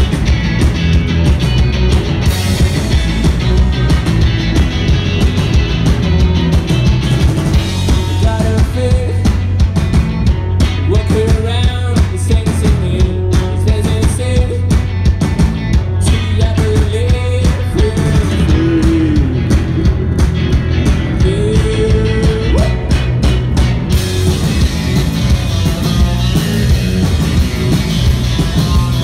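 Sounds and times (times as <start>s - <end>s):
drum kit: 0.0s - 29.0s
electric guitars: 0.0s - 29.0s.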